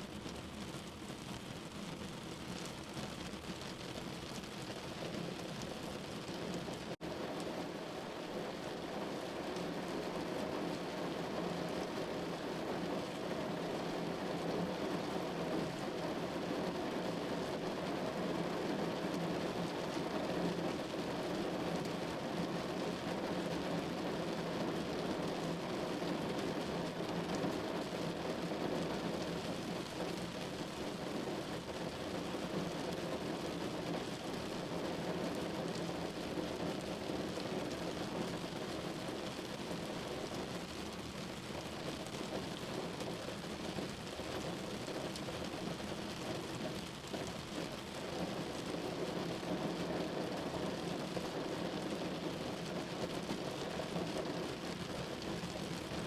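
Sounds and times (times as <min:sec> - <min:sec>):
rain on a window pane: 0:00.0 - 0:56.0.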